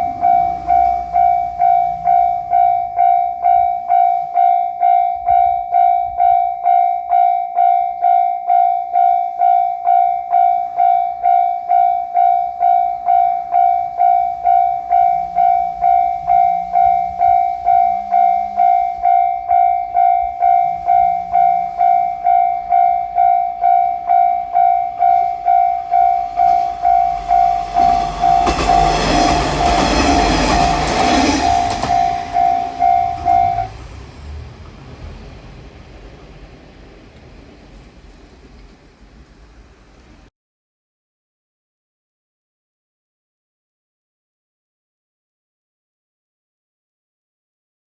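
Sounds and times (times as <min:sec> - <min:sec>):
level crossing warning bell ringing: 0:00.0 - 0:39.9
diesel railcar passing: 0:00.0 - 0:40.3.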